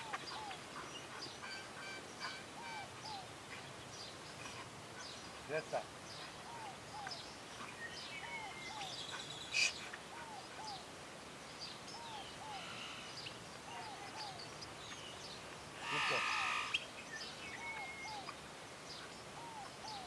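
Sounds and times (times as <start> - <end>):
birds calling: 0.0 - 20.0
higher bird chirps: 0.0 - 20.0.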